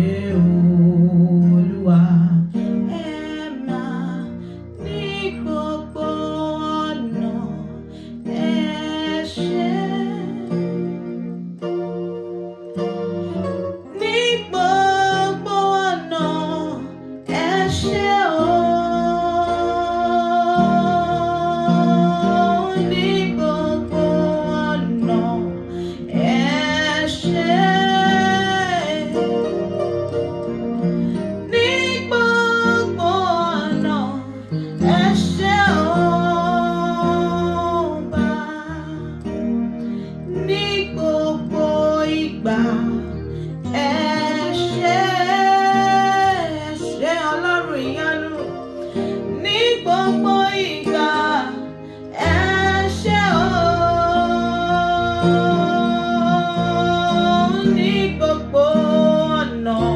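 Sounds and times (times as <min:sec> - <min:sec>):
guitar accompaniment: 0:00.0 - 0:59.9.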